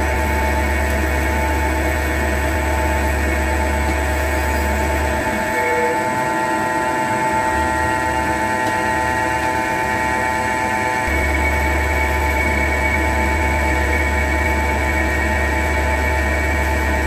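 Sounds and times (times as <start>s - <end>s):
lathe machine whine: 0.0s - 17.0s
low hum: 0.0s - 17.0s.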